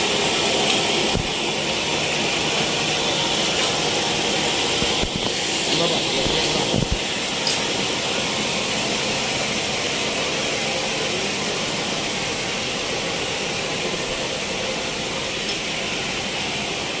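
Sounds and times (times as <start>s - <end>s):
sawmill machinery hissing: 0.0s - 17.0s.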